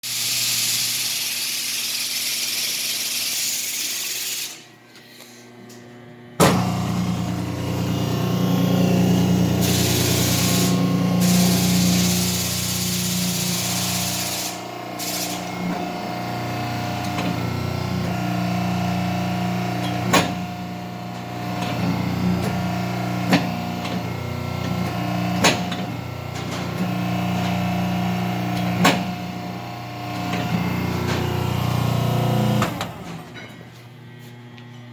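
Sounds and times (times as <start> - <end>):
machine humming: 3.5 - 34.9.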